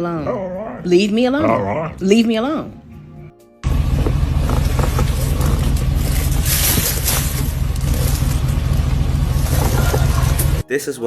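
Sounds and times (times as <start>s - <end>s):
low rumble: 1.7s - 10.6s.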